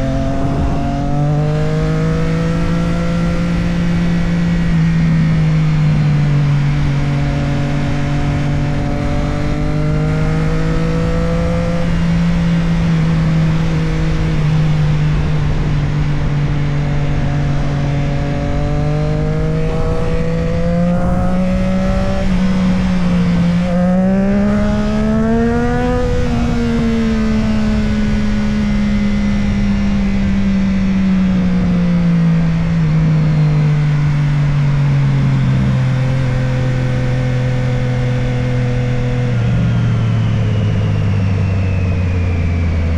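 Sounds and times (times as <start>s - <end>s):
motorcycle engine cruising: 0.0s - 42.9s
wind and road noise: 0.0s - 42.9s.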